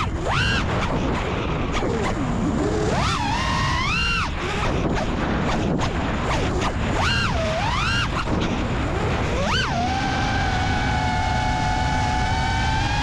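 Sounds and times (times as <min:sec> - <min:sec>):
wind rushing: 0:00.0 - 0:12.3
quadcopter motors whining: 0:00.0 - 0:13.0.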